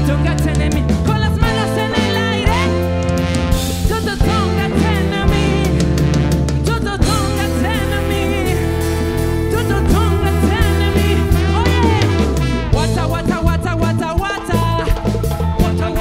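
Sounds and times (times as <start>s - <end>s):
bass guitar: 0.0s - 16.0s
drum kit: 0.0s - 16.0s
live afrobeat band: 0.0s - 16.0s.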